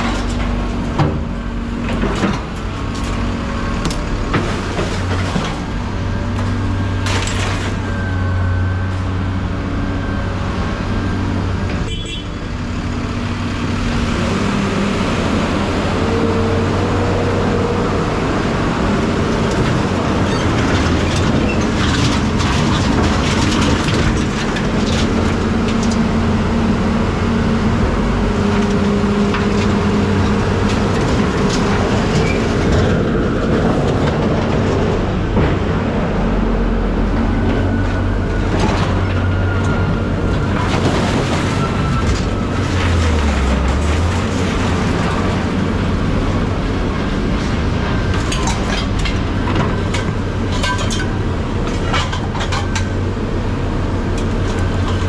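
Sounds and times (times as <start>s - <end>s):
heavy vehicle engine rumble: 0.0s - 55.0s.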